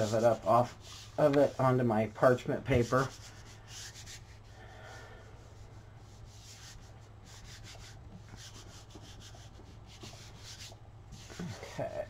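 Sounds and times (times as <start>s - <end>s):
paper brushing strokes: 0.0s - 12.0s.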